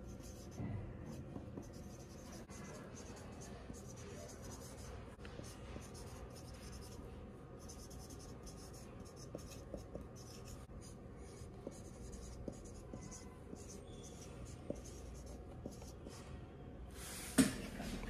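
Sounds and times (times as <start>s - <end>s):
marker scratching on whiteboard: 0.0s - 16.3s.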